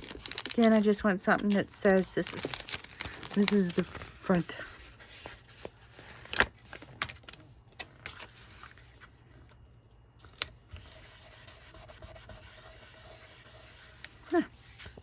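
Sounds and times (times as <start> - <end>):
paper rustling: 0.0 - 9.6, 12.0 - 15.0.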